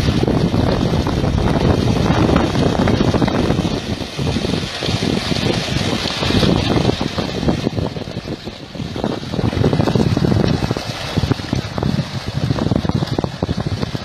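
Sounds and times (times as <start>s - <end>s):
fish splashing in water: 0.0s - 14.0s
wind buffeting microphone: 0.0s - 14.0s.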